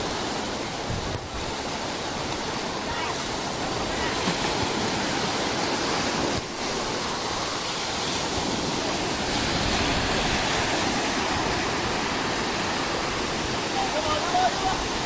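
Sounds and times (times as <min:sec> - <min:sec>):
sea surf washing onto beach: 0:00.0 - 0:15.0.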